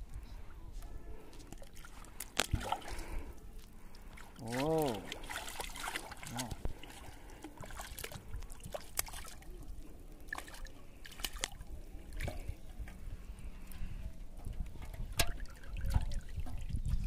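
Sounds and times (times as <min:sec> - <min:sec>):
water dripping and splashing: 0:01.5 - 0:13.0, 0:14.4 - 0:17.0.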